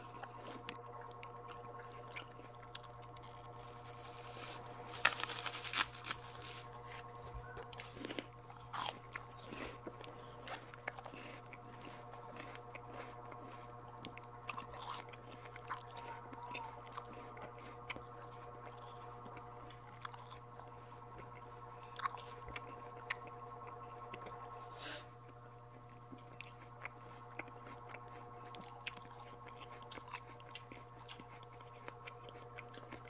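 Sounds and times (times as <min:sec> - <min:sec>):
person chewing fruit: 0:00.0 - 0:33.0
steady low hum: 0:00.0 - 0:33.0.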